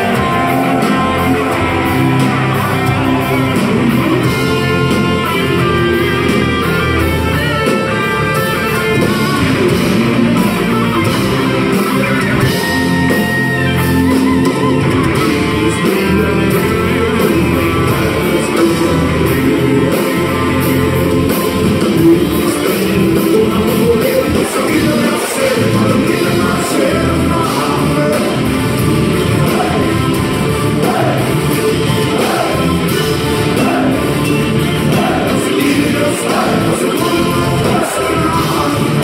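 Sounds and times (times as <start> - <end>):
bass guitar: 0.0 - 39.0
distorted electric guitars: 0.0 - 39.0
drum kit: 0.0 - 39.0.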